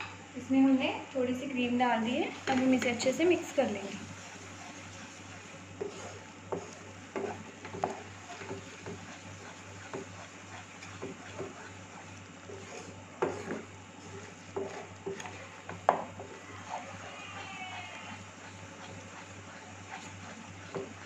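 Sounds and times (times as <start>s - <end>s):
steady low hum: 0.0s - 21.0s
spatula scraping and knocking pan: 2.2s - 21.0s.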